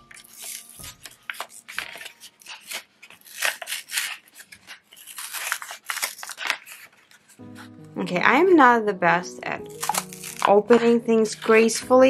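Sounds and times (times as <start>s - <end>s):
packaging being torn open: 0.0s - 7.8s, 9.6s - 11.6s.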